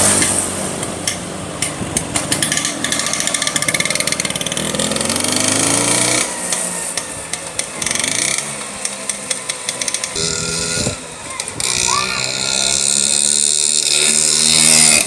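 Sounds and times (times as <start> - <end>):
two-stroke scooter engine: 0.0 - 15.0.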